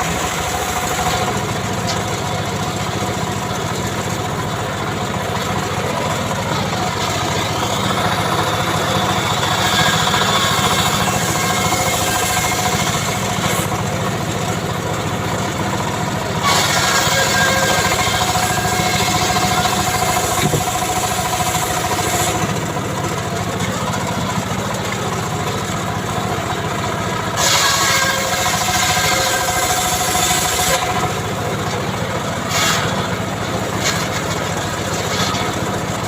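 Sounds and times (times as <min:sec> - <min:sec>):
chainsaw engine running: 0:00.0 - 0:36.0.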